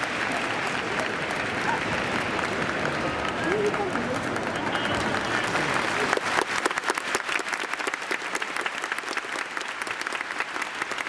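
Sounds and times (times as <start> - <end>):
stadium crowd applauding: 0.0 - 11.0.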